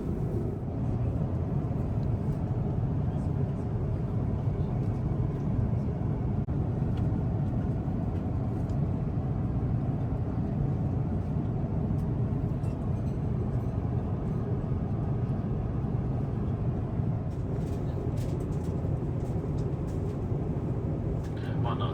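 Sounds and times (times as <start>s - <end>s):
airplane cabin rumble: 0.0s - 21.9s.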